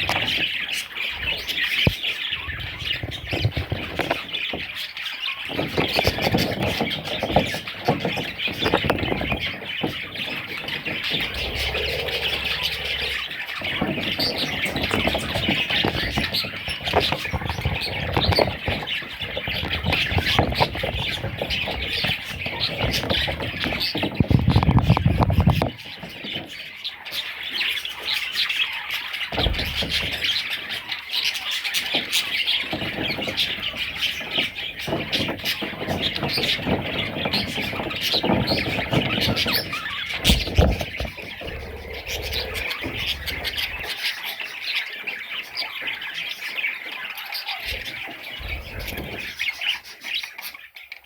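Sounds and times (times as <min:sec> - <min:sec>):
budgerigars chattering and squawking: 0:00.0 - 0:51.0.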